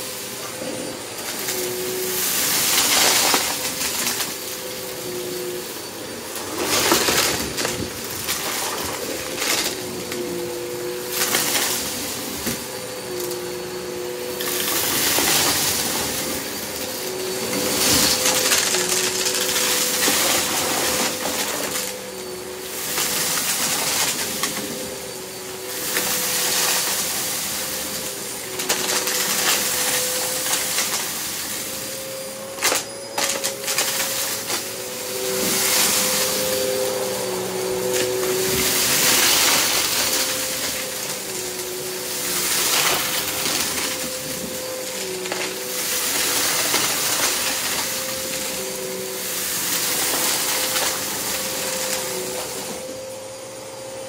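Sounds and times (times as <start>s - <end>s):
vacuum cleaner motor whine: 0.0s - 54.0s
vacuum sucking up debris: 0.0s - 54.0s.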